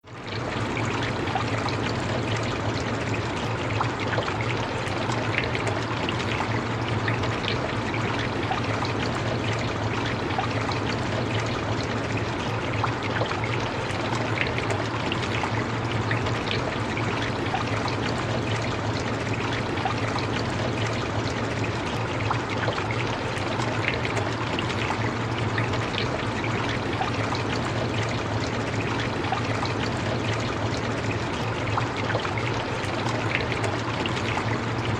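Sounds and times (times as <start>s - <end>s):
constant low drone: 0.0s - 34.9s.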